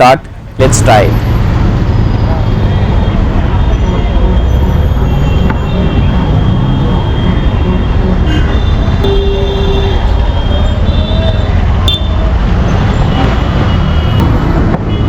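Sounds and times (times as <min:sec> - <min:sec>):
traffic engines rumbling: 0:00.0 - 0:15.0
car horns: 0:02.5 - 0:15.0.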